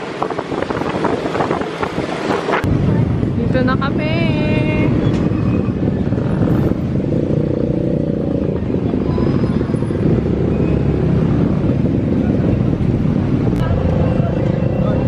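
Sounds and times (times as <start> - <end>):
motorcycle engines: 0.0 - 15.0.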